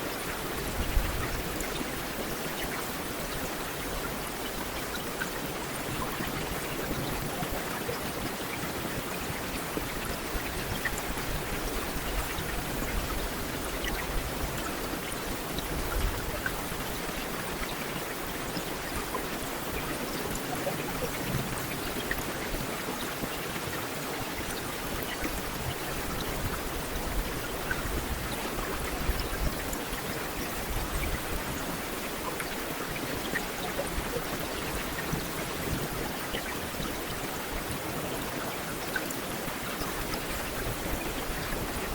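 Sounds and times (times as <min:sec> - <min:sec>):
heavy rain on hard surface: 0:00.0 - 0:41.9.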